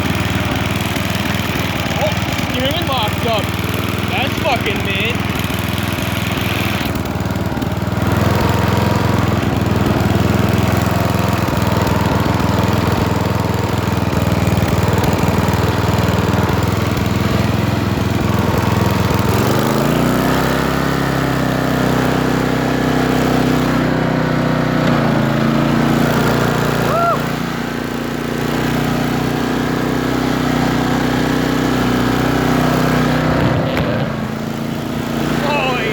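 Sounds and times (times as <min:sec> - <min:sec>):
riding lawnmower engine running: 0:00.0 - 0:35.9.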